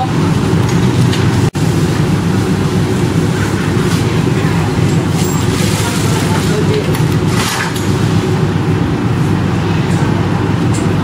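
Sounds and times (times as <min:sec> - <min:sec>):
low rumble of street noise: 0:00.0 - 0:11.0.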